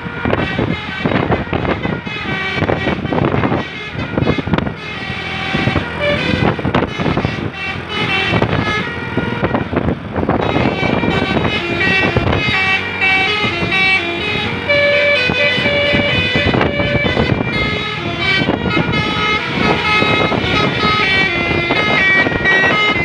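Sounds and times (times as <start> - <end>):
bus horn playing melody: 0.0 - 23.0.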